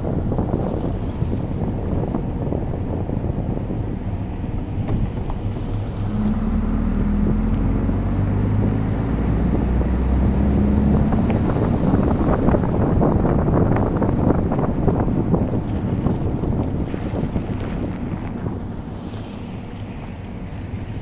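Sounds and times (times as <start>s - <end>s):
car engine humming: 0.0s - 21.0s
road and wind noise: 0.0s - 21.0s.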